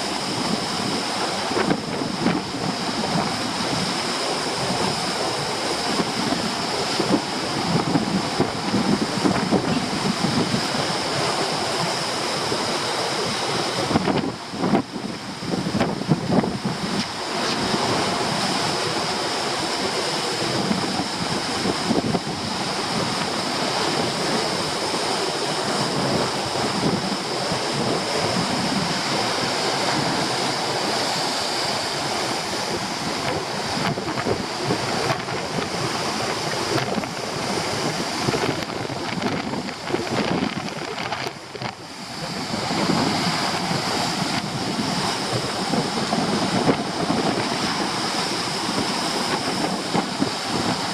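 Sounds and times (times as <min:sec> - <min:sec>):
surf breaking on rocky shore: 0:00.0 - 0:50.9
wind buffeting microphone: 0:00.0 - 0:50.9.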